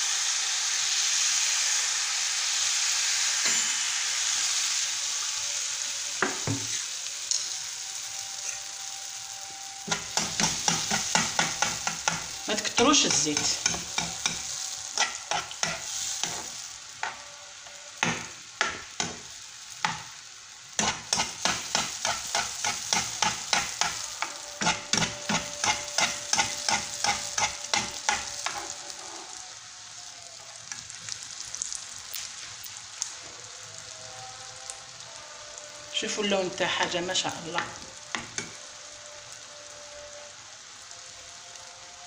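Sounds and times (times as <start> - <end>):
batter sizzling in hot oil: 0.0 - 42.0.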